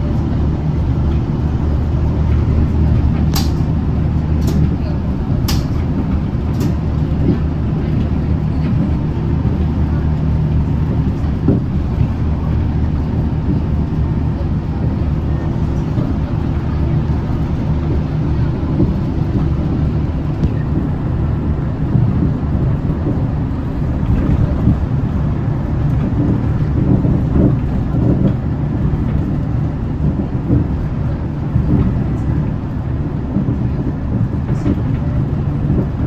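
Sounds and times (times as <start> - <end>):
bus engine drone: 0.0 - 36.0
road rumble: 0.0 - 36.0.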